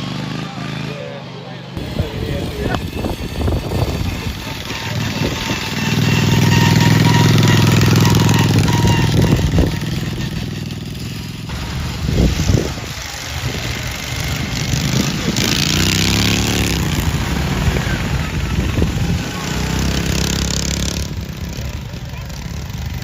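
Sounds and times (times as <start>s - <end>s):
racing lawnmower engines passing: 0.0s - 23.0s.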